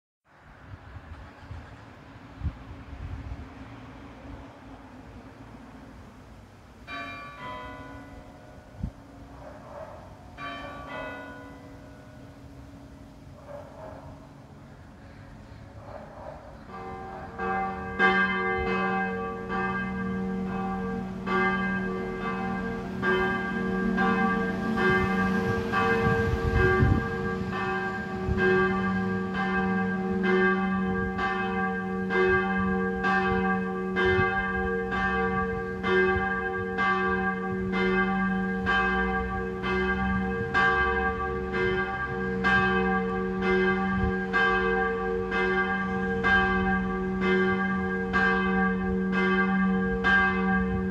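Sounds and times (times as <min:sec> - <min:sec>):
church bells ringing: 0:06.8 - 0:50.9.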